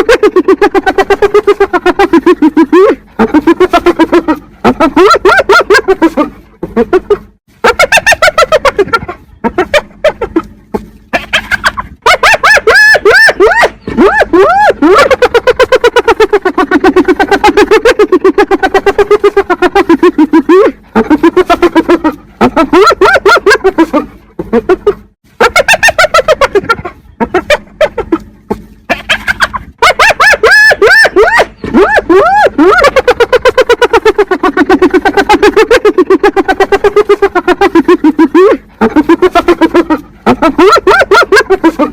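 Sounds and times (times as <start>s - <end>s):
hyena giggling whoops: 0.0s - 41.9s.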